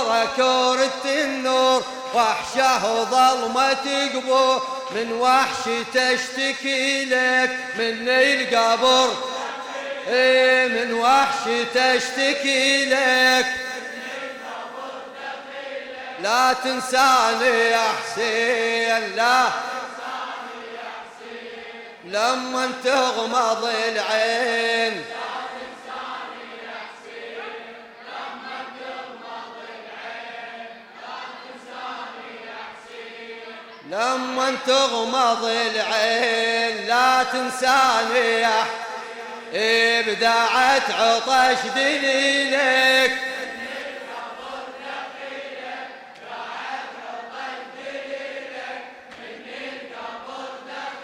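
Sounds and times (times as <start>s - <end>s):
amplified voice reciting: 0.0s - 51.0s
group chanting in unison: 0.0s - 51.0s.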